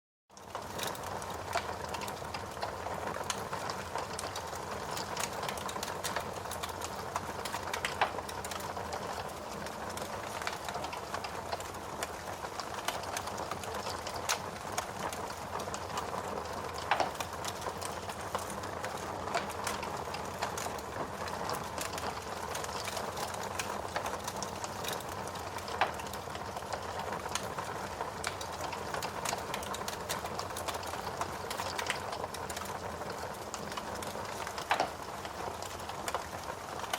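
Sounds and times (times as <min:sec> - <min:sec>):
wood fire crackling: 0:00.4 - 0:36.9.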